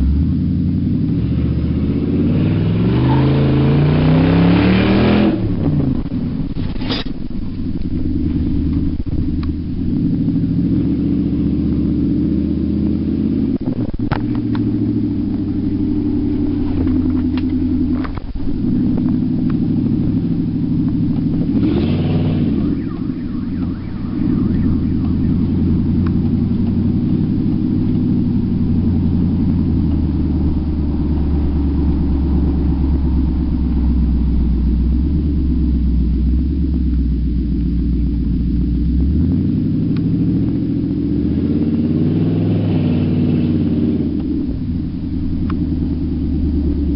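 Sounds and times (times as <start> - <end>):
loud engine running without exhaust: 0.0 - 46.9.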